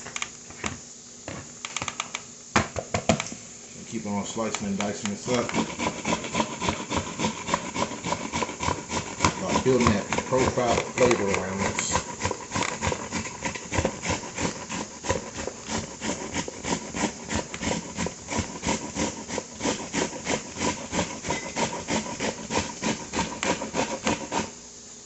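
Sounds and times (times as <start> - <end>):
cabbage scraping on hand grater: 4.4 - 24.6.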